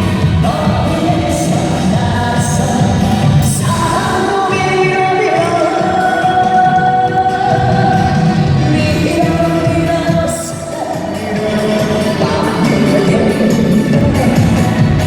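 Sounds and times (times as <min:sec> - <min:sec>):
backing track music: 0:00.0 - 0:15.0.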